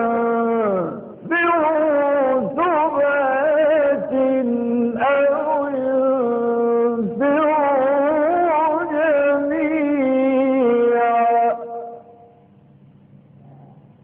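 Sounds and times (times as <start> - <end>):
man reciting melodically: 0.0 - 12.2.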